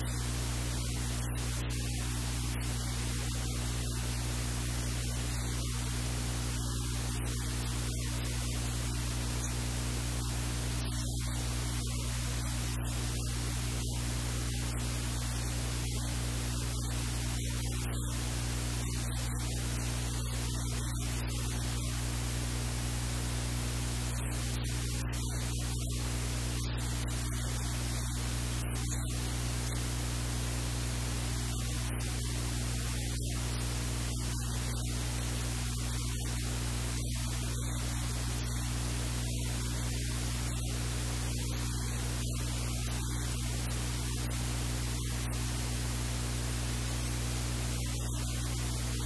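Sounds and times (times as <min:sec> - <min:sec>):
low electrical hum: 0:00.0 - 0:49.0
static hiss: 0:00.0 - 0:49.0.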